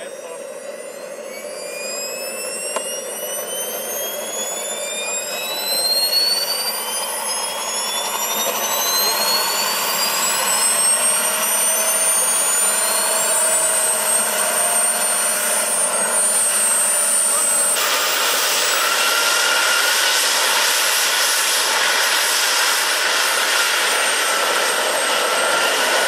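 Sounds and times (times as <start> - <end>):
jet turbines whining: 0.0 - 26.0.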